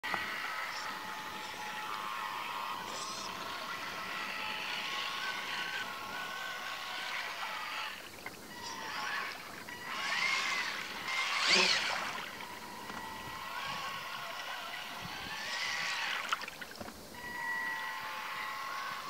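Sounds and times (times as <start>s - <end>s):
electric motor and gearbox whine: 0.0s - 19.0s.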